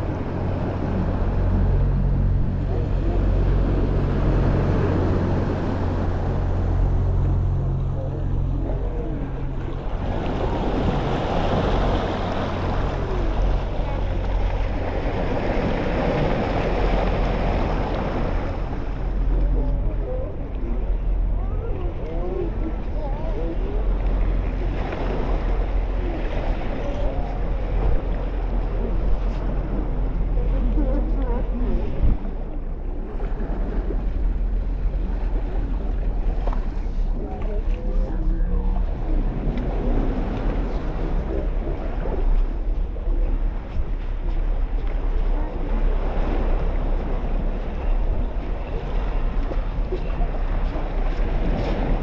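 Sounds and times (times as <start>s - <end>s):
low motor hum: 0.0s - 52.0s
ocean surf: 0.0s - 52.0s
wind buffeting microphone: 0.0s - 52.0s.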